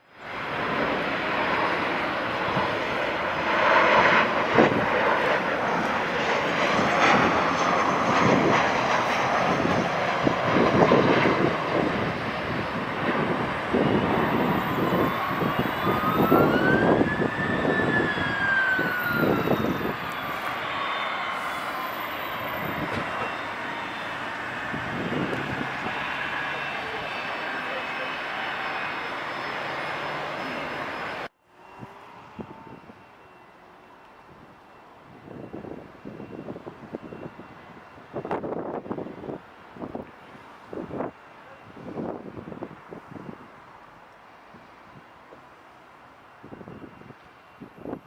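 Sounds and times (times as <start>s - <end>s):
jet airliner engines roaring: 0.0s - 48.0s.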